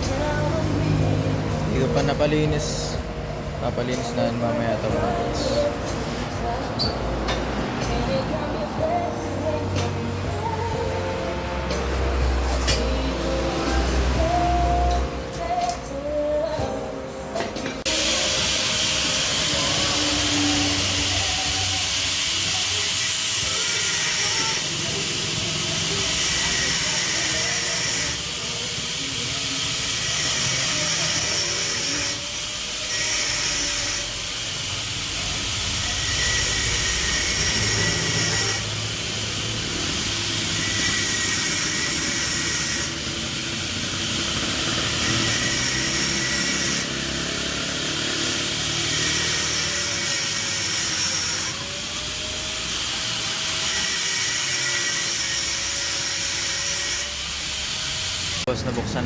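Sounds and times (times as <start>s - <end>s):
power tool cutting steel: 3.7s - 16.7s, 17.4s - 58.6s.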